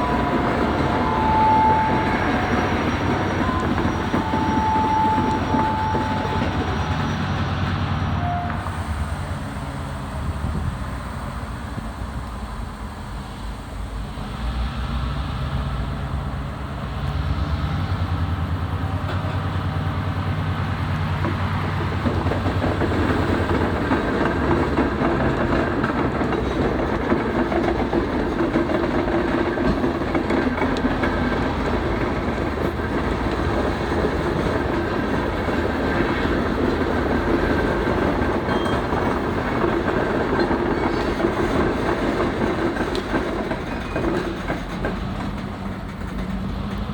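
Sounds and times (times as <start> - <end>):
train wheels clickety-clack: 0.0 - 10.8, 14.2 - 46.9
diesel locomotive engine drone: 0.0 - 46.9.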